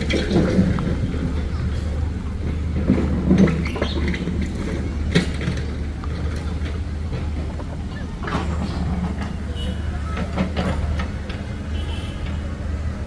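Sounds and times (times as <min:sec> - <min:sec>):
diesel machinery running: 0:00.0 - 0:13.0.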